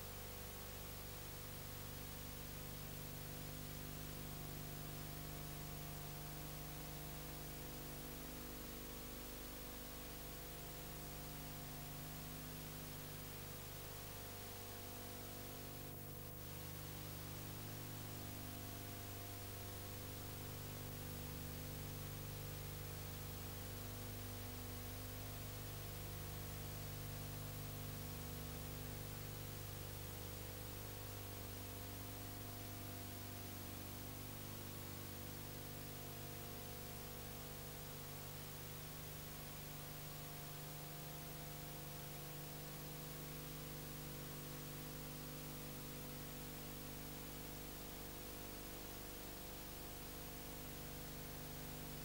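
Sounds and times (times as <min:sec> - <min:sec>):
electrical hum and hiss: 0:00.0 - 0:52.0.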